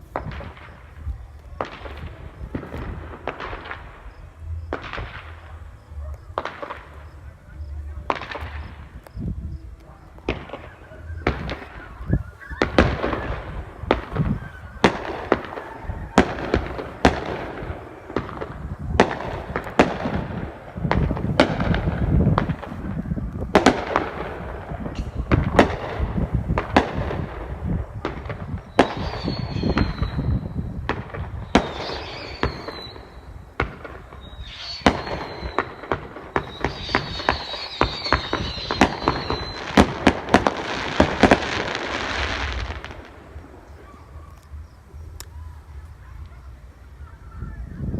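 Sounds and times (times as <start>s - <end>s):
fireworks crackling hiss: 0.0s - 47.2s
fireworks bangs and booms: 0.0s - 47.9s.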